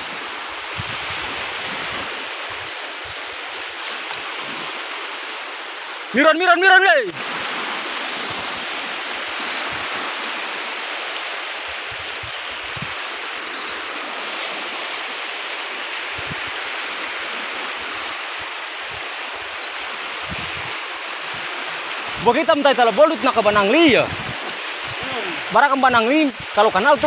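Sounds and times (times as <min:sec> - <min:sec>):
surf rushing on beach: 0:00.0 - 0:27.0.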